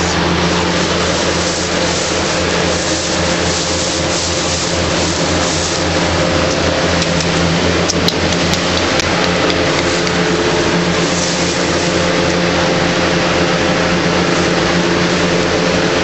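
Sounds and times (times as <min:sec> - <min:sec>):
machine humming: 0:00.0 - 0:16.0
rushing air hiss: 0:00.0 - 0:16.0.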